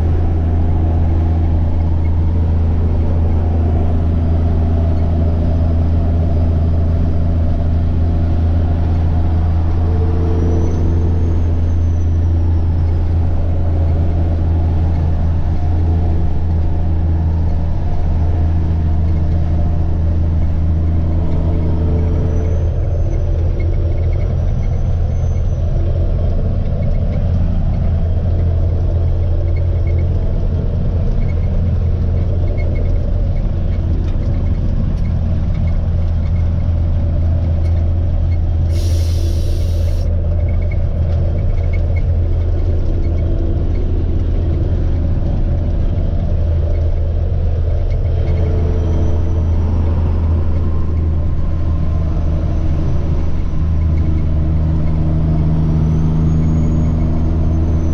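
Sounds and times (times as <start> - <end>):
diesel truck engine droning: 0.0 - 57.9
faint turbo whine: 0.0 - 57.9.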